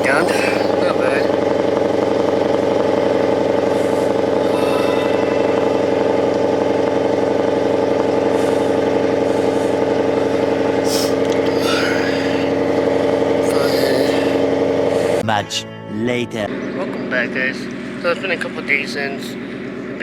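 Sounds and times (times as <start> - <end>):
car engine idling: 0.0 - 15.2, 16.5 - 20.0.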